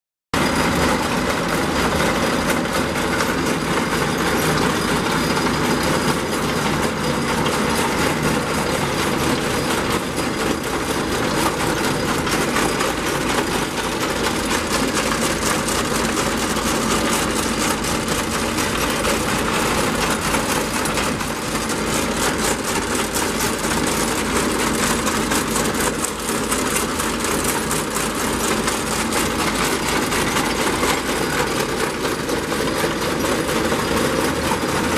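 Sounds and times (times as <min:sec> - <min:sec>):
machinery engine with rattling clatter: 0:00.4 - 0:34.9.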